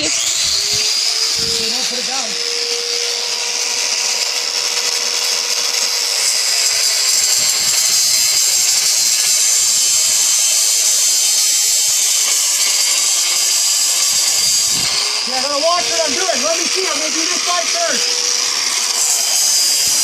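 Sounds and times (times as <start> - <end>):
power tool cutting metal: 0.0 - 20.0.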